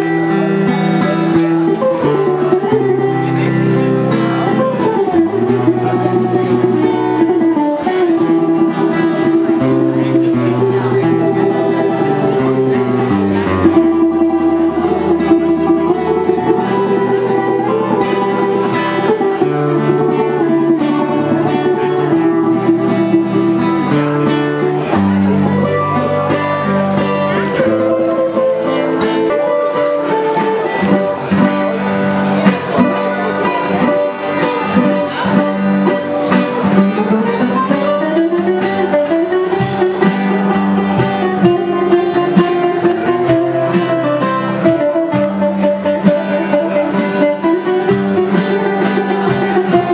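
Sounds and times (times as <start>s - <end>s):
acoustic-electric guitar accompaniment: 0.0s - 49.9s
bouzouki plucked melody: 0.0s - 49.9s.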